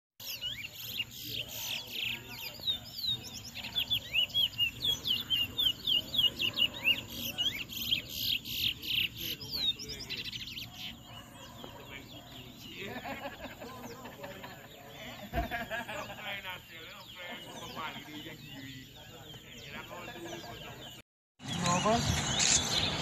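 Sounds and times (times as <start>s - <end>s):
finches singing whistled notes: 0.2s - 23.0s.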